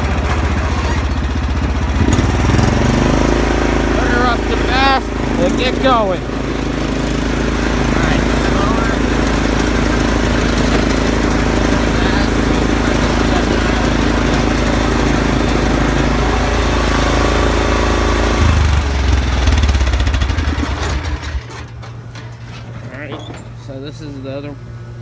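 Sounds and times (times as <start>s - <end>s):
lawn tractor engine running: 0.0s - 25.0s.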